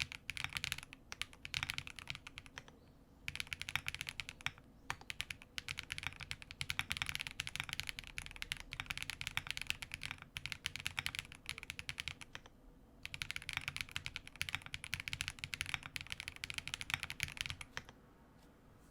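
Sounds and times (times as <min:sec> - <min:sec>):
fast typing on mechanical keyboard: 0:00.0 - 0:02.7, 0:03.3 - 0:17.9.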